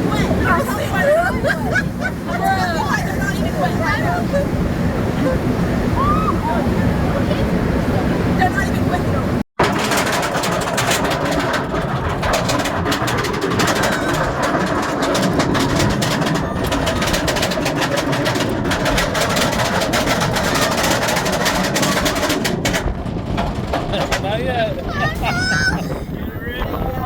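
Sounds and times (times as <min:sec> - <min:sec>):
roller coaster rumbling on track: 0:00.0 - 0:27.0.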